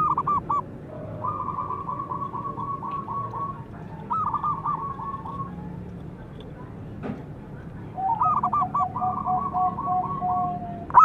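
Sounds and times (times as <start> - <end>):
dove cooing: 0.0 - 5.9, 8.0 - 11.0.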